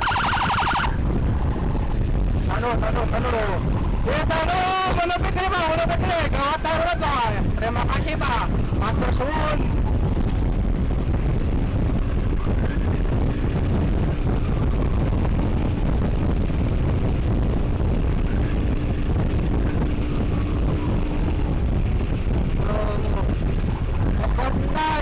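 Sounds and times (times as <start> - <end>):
scooter engine and road noise: 0.0 - 25.0
wind rushing over microphone: 0.0 - 25.0.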